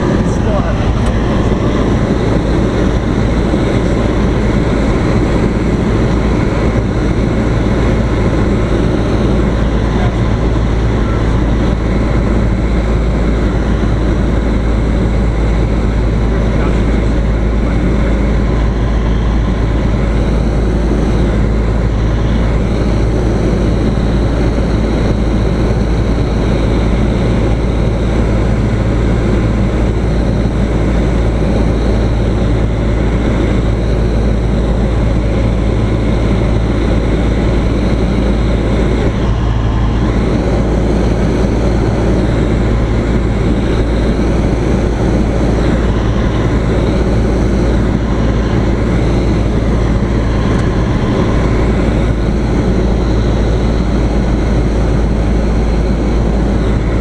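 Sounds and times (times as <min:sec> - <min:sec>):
propeller airplane engine droning: 0:00.0 - 0:57.0.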